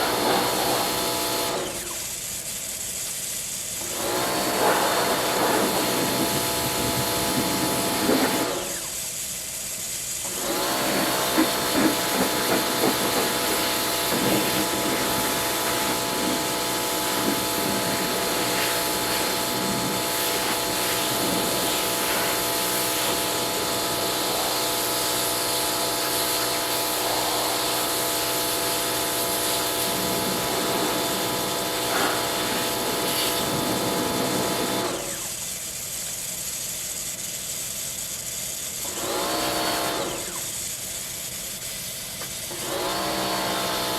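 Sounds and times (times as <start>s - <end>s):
pressure washer motor whine: 0.0s - 2.9s, 3.8s - 9.2s, 10.1s - 36.3s, 38.8s - 41.5s, 42.5s - 43.9s
water spray hiss: 0.0s - 43.8s.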